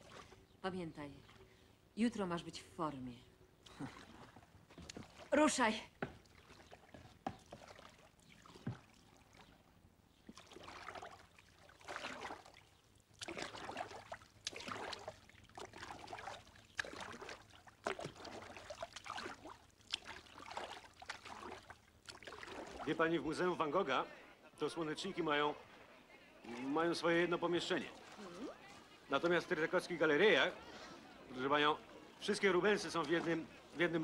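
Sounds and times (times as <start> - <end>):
kayak paddle splashing: 0.0 - 0.6, 3.6 - 34.0.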